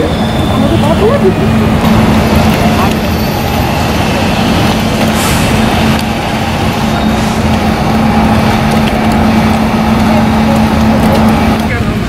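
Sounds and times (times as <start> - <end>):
engine idling: 0.0 - 12.0
loud background noise: 0.0 - 12.0.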